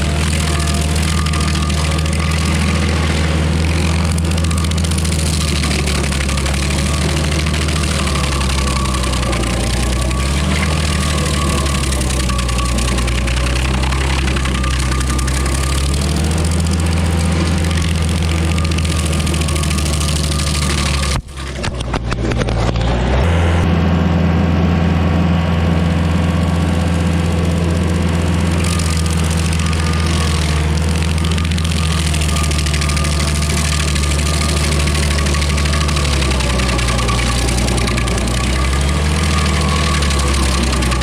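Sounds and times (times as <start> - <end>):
cutter wheel hissing: 0.0 - 21.7, 28.4 - 41.0
stump grinder engine running: 0.0 - 41.0.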